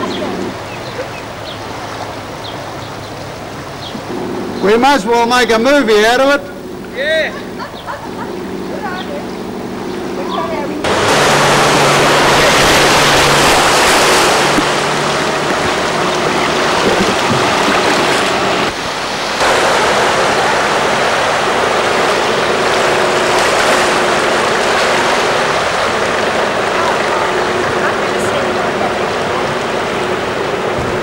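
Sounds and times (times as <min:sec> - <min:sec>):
car splashing through water: 0:00.0 - 0:06.3, 0:07.5 - 0:31.0
floodwater rushing: 0:00.0 - 0:06.4, 0:07.0 - 0:31.0
car engine hum: 0:00.0 - 0:31.0.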